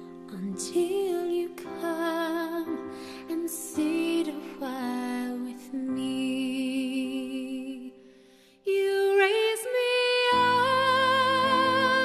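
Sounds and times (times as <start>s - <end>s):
slow gentle song: 0.0s - 12.0s.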